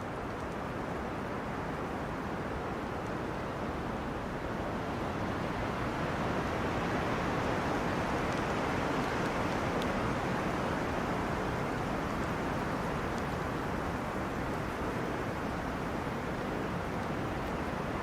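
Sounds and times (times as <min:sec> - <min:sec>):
wind rustling tree leaves: 0:00.0 - 0:18.0.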